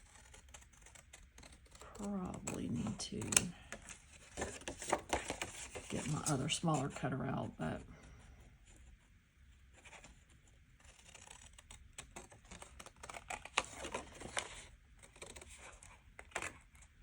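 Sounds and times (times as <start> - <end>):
paper rustling: 0.0 - 7.6, 9.7 - 16.9.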